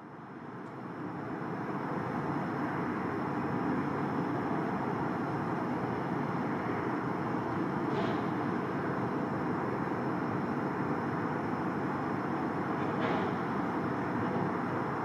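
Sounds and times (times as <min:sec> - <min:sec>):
distant city traffic: 0:00.0 - 0:15.0.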